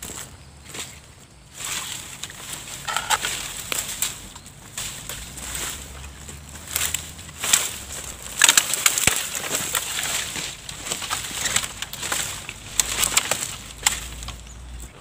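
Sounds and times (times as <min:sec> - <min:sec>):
twigs crackling and snapping: 0:00.0 - 0:15.0.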